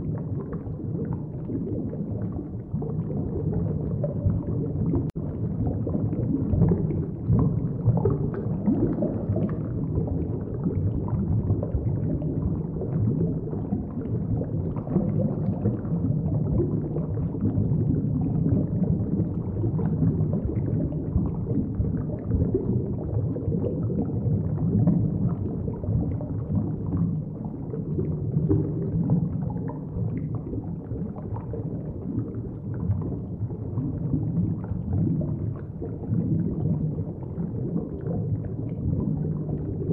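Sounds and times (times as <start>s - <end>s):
underwater water rumble: 0.0s - 39.9s.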